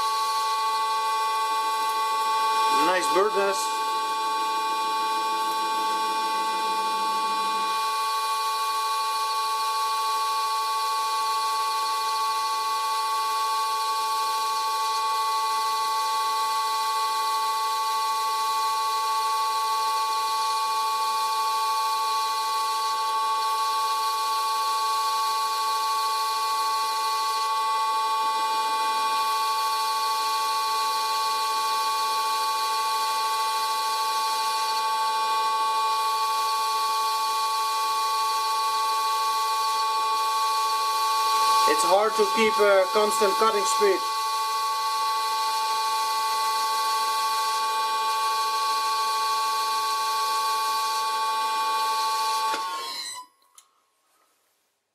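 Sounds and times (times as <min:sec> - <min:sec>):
metal lathe whining: 0:00.0 - 0:15.9, 0:21.7 - 0:53.3.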